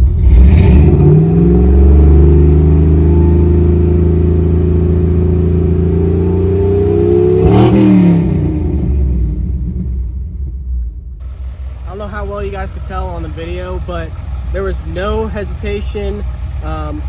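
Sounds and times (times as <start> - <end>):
truck engine revving: 0.0 - 10.2, 11.2 - 17.0.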